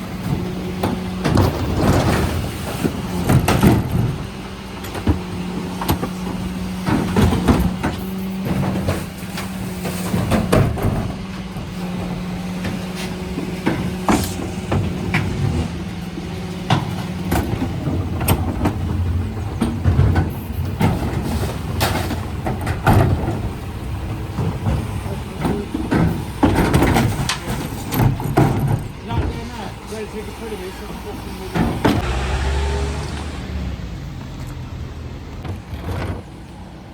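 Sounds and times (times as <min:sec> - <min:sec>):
refuse truck engine hum: 0:00.0 - 0:36.9
knocks and clunks: 0:00.1 - 0:29.9, 0:31.2 - 0:36.6.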